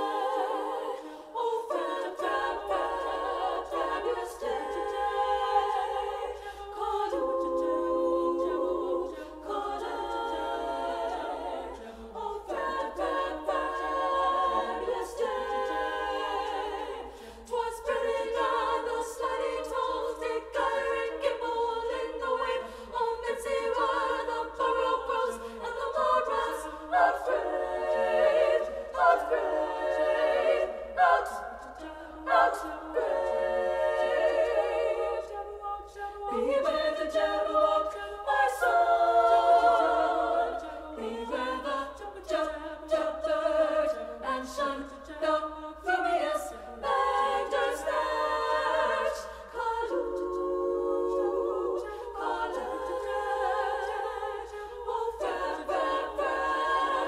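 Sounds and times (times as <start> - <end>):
women's choir singing a cappella: 0.0 - 57.0.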